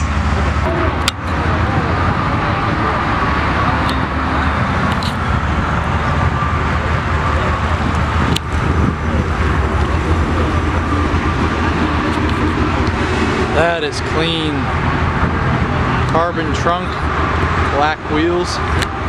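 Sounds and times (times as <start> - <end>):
car engines idling: 0.0 - 19.0.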